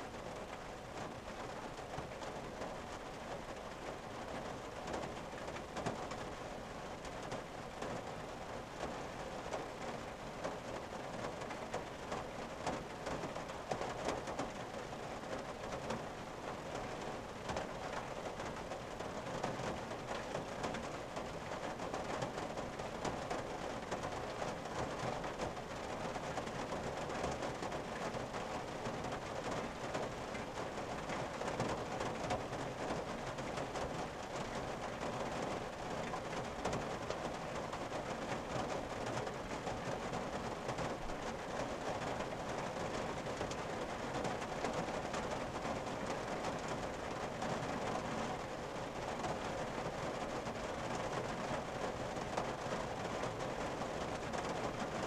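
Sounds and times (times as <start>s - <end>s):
rain on car roof: 0.0s - 55.0s.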